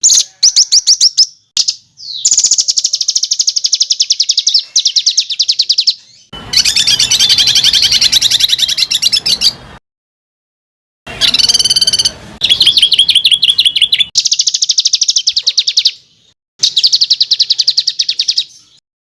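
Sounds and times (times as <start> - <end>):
songbird rapid harsh trills: 0.0 - 9.6, 11.2 - 18.7.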